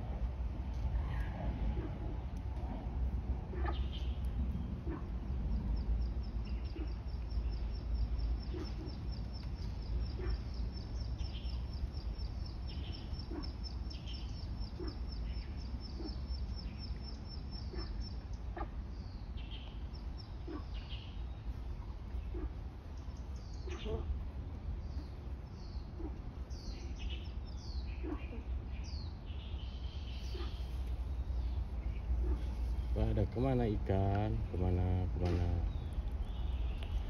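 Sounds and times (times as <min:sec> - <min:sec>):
birds chirping: 0:00.0 - 0:37.0
steady low rumble: 0:00.0 - 0:37.0.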